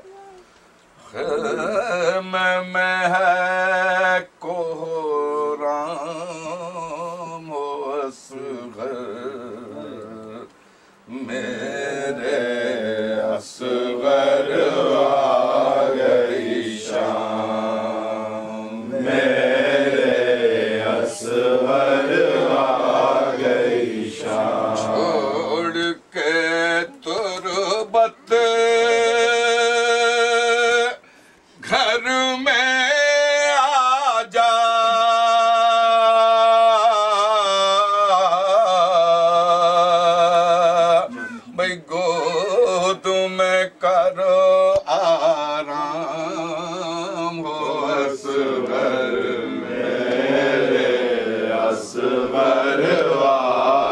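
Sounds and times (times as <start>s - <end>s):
men chanting a lament: 1.0s - 10.5s, 11.1s - 31.0s, 31.6s - 53.9s
man singing with wavering notes: 1.0s - 49.7s.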